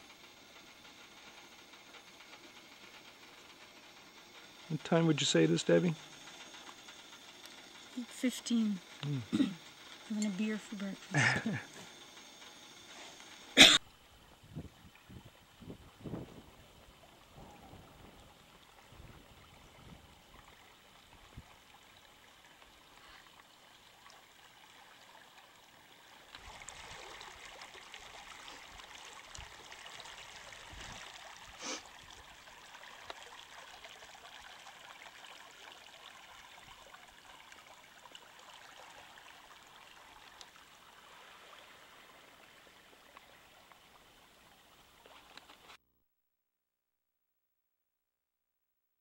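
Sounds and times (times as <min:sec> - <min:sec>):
running river water: 0:00.0 - 0:45.8.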